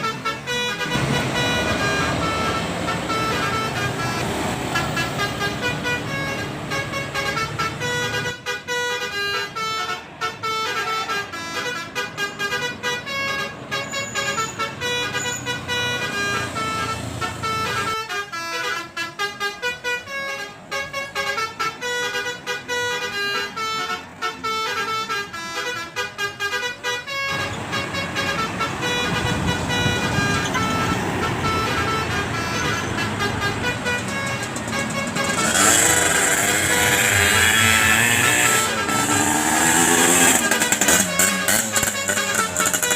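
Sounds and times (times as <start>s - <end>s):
engine and traffic rumble: 0.0s - 42.9s
musical air horn melody: 0.0s - 42.9s.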